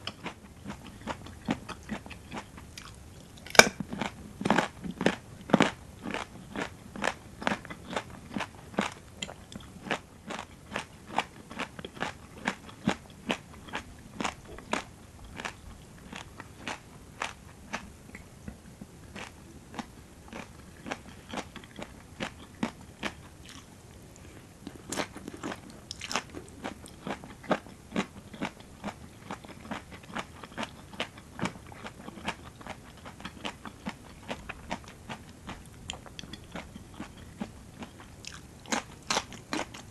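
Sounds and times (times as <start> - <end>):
crunchy vegetables being chewed: 0.0 - 39.9.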